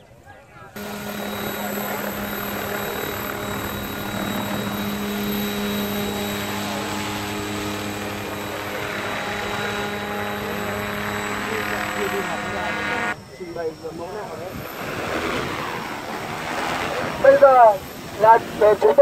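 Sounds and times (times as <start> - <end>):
helicopter rotor hum: 0.8 - 19.0.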